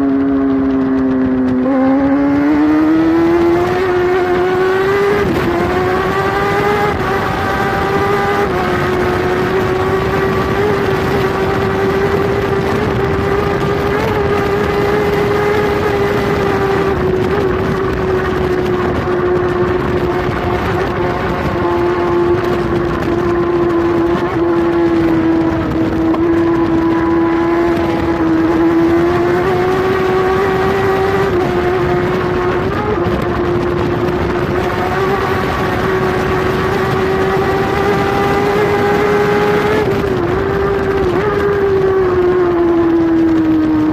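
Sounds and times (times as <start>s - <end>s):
motorcycle engine at speed: 0.0s - 43.9s
wind rush: 0.0s - 43.9s.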